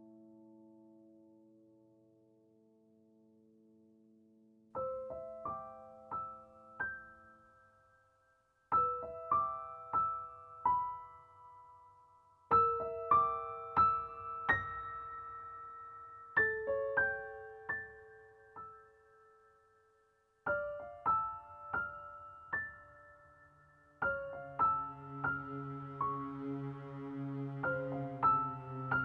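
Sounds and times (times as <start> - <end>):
gentle piano music: 0.0 - 8.0, 8.7 - 29.0.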